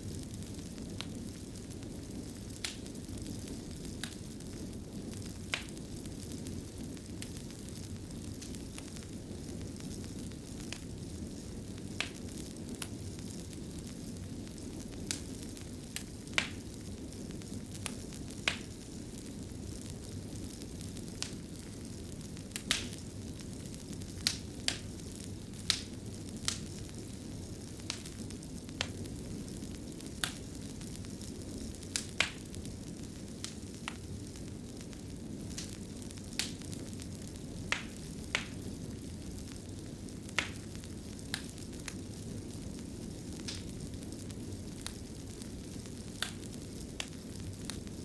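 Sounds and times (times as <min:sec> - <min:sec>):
fire burning rumble: 0:00.0 - 0:48.0
fire crackles and pops: 0:00.0 - 0:48.0.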